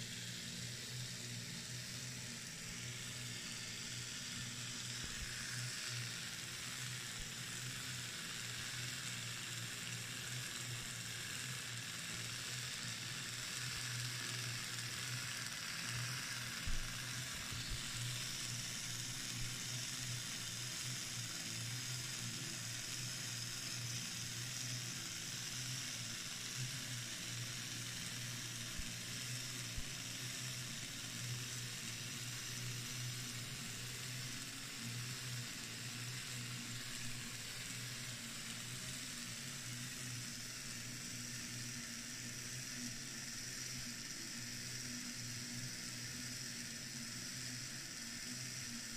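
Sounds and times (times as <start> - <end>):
engine whirring hiss with hum: 0.0 - 48.9.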